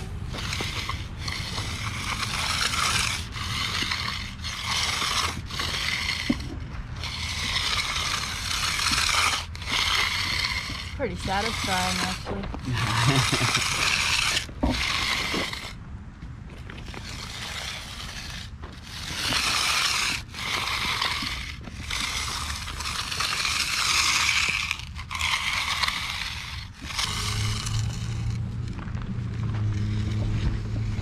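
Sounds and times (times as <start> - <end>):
edger scraping wet concrete: 0.0 - 15.8, 16.5 - 31.0.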